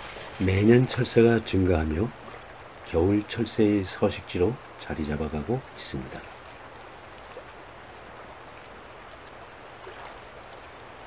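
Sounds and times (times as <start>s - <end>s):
flowing water hiss: 0.0s - 11.0s.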